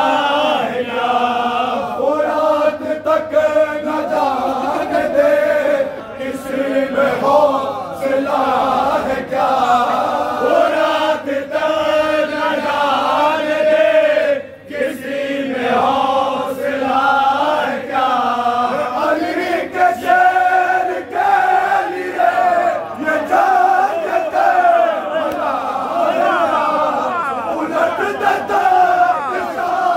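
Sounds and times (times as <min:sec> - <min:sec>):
men chanting a lament: 0:00.0 - 0:29.9.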